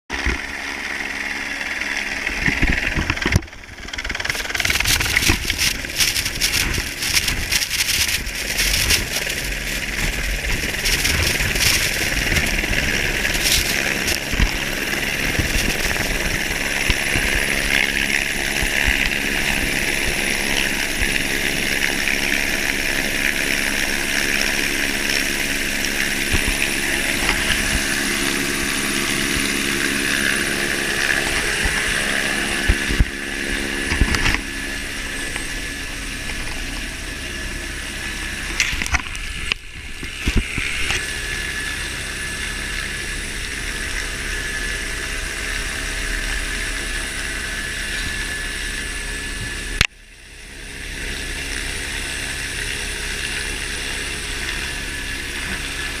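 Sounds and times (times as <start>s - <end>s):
helicopter engine and rotor: 0.1s - 56.0s
high turbine whine: 0.1s - 56.0s.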